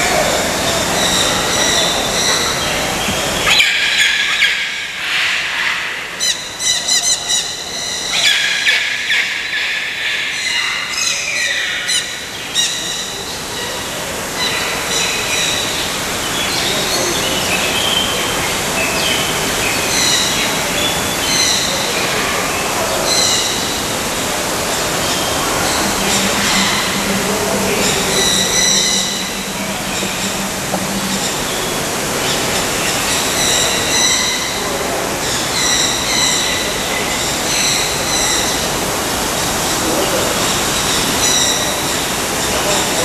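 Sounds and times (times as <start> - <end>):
tropical birds calling: 0.0 - 43.0.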